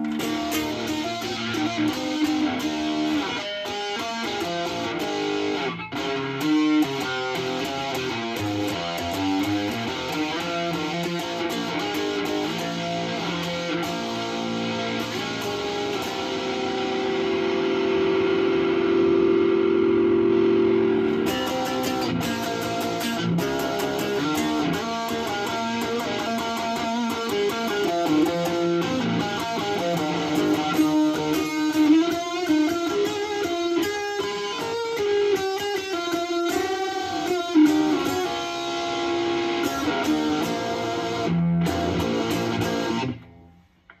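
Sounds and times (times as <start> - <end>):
distorted electric guitar: 0.0 - 44.0.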